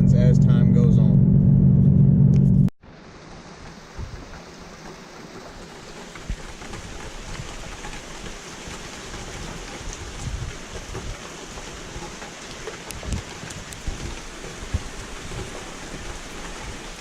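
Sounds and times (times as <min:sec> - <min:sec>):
rain falling: 0:02.8 - 0:17.0.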